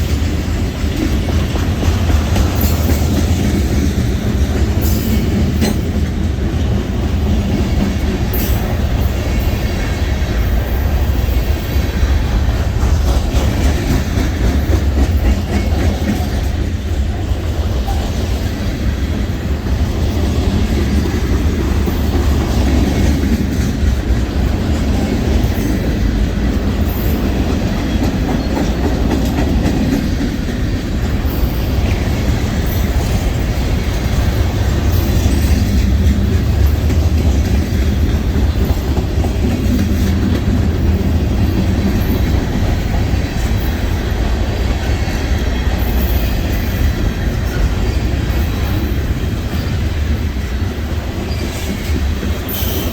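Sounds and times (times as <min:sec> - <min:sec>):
freight train rumbling past: 0:00.0 - 0:52.9
train wheels clicking on rails: 0:00.0 - 0:52.9.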